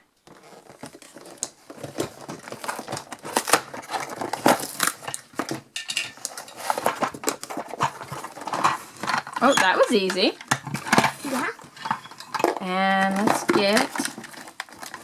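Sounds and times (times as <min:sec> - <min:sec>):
packaging crinkling and rustling: 0:00.2 - 0:15.0.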